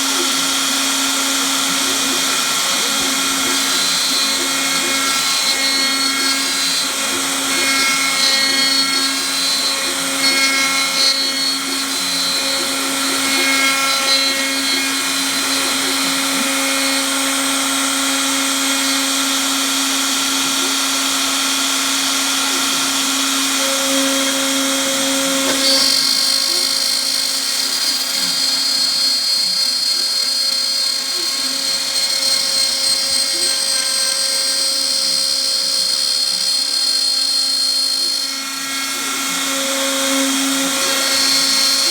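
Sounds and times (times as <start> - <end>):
cnc router motor whine: 0.0 - 41.9.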